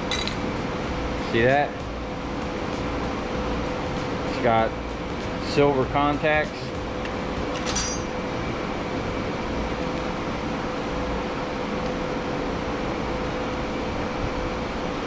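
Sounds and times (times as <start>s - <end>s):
machine whirring and humming: 0.0s - 15.0s.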